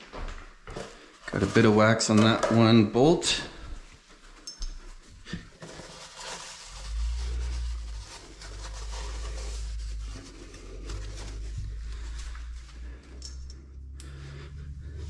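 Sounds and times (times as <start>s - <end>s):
rubbing and scraping: 0.7s - 2.7s, 4.9s - 15.0s.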